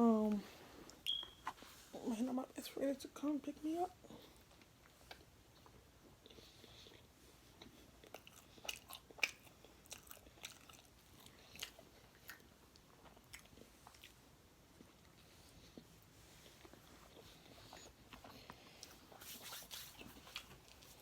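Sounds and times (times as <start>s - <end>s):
chewing and crunching fried food: 4.0s - 21.0s.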